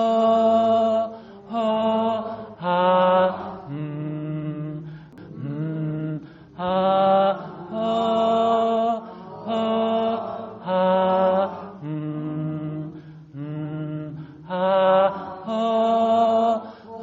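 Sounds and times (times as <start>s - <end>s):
person chanting vowel tones: 0.0s - 17.0s.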